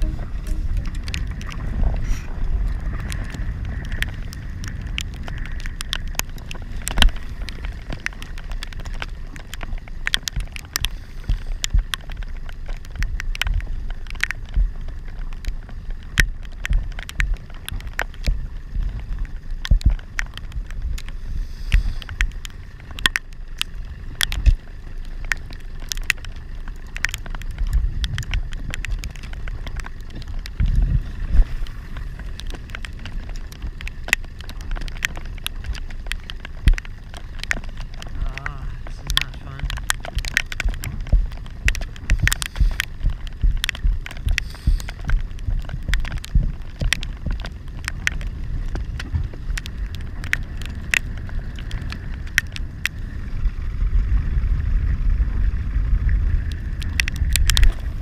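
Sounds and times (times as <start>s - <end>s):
choppy water: 0.0s - 58.0s
low wind rumble: 0.0s - 58.0s
raindrops ticking on camera: 0.0s - 58.0s.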